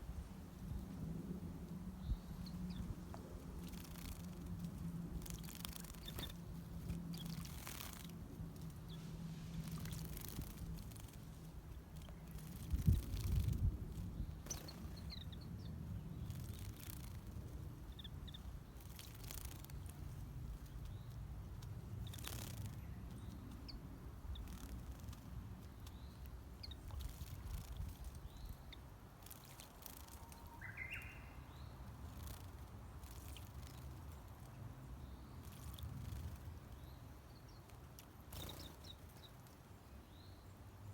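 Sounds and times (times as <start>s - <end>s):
small birds chirping: 1.7s - 40.9s.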